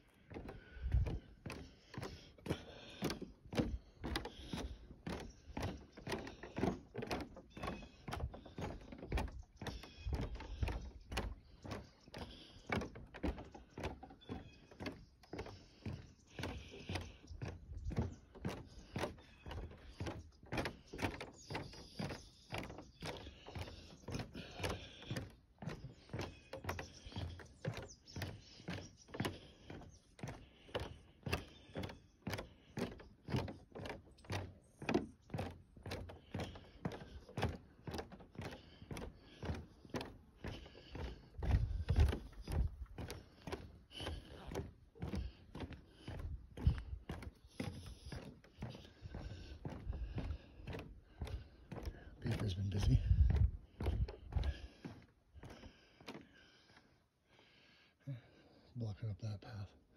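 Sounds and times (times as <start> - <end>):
footsteps on wooden boardwalk: 0.0 - 59.9.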